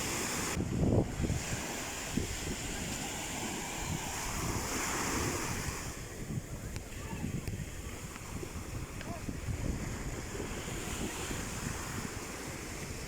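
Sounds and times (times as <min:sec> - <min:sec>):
sea waves washing onto shore: 0:00.0 - 0:13.0
wind buffeting microphone: 0:00.0 - 0:13.0.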